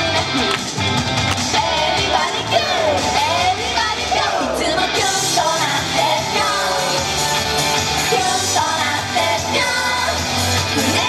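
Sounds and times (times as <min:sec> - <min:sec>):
pop backing music: 0:00.0 - 0:11.0.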